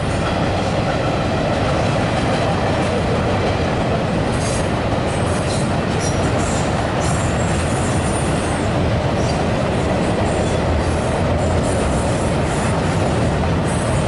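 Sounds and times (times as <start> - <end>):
freight train rumbling on rail: 0.0 - 14.0.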